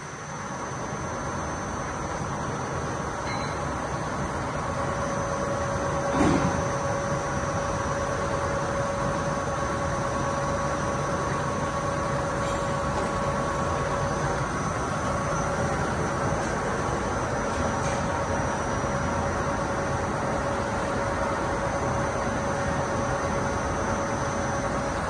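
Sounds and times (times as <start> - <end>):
machine humming and whining: 0.0 - 25.0.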